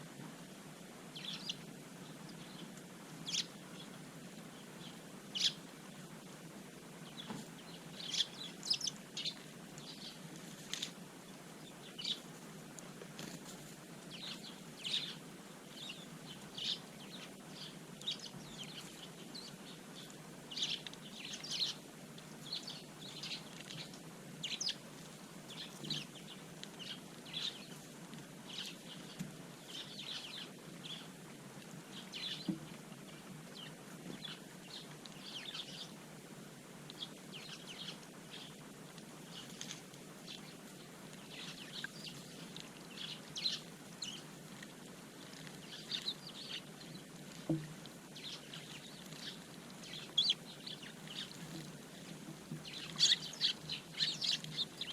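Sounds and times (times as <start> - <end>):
sparrows chirping: 1.2 - 5.9, 7.0 - 12.3, 14.0 - 27.9, 28.5 - 31.2, 31.9 - 36.0, 36.9 - 44.4, 45.4 - 47.1, 48.1 - 54.9.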